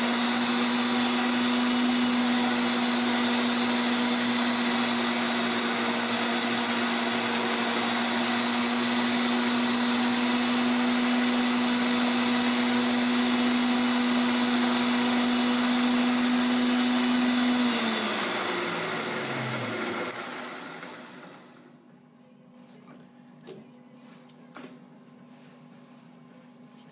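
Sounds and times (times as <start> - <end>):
grinding wheel spinning down: 0.0 - 21.6
grinder motor whining: 0.0 - 21.7.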